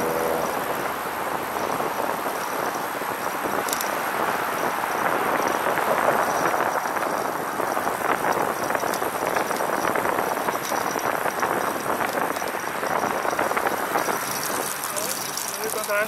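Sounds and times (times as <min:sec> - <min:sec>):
bicycle tyres rattling over wooden boardwalk: 0:00.0 - 0:16.0.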